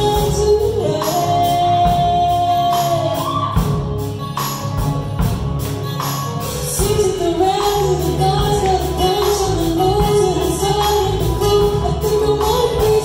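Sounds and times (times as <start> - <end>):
woman singing: 0.0 - 4.1, 6.6 - 13.0
drum kit beat: 0.0 - 13.0
guitars playing: 0.0 - 13.0.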